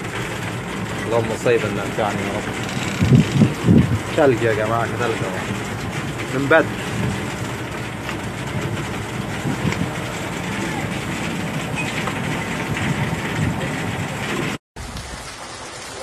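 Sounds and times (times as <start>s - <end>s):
wind buffeting microphone: 0.0s - 15.1s
hail and heavy rain: 0.0s - 16.0s.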